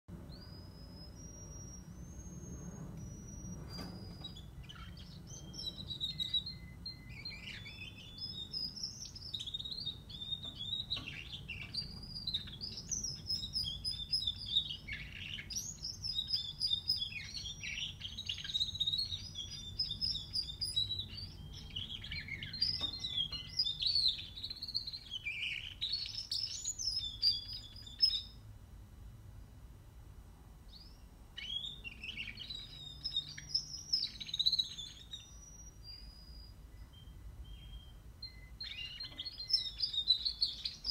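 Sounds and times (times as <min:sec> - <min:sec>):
canary warbling song: 0:00.1 - 0:28.4, 0:30.7 - 0:40.9.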